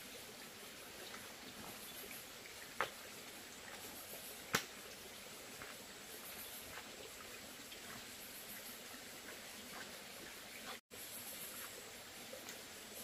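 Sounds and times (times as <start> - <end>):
stream water running over weir: 0.0 - 13.0.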